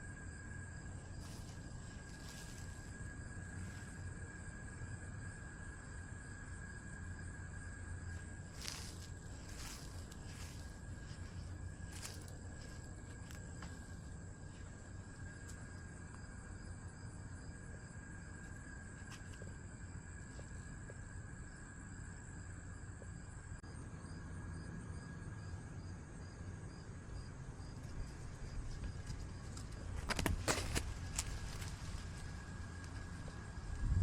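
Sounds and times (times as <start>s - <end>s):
high continuous insect trill: 0.0s - 34.0s
pulsing insect trill: 0.0s - 34.0s.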